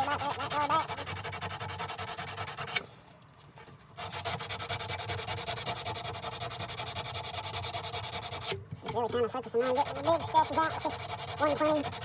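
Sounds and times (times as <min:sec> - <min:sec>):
sandpaper rubbing on steel: 0:00.0 - 0:02.8, 0:04.0 - 0:08.6, 0:09.4 - 0:12.0.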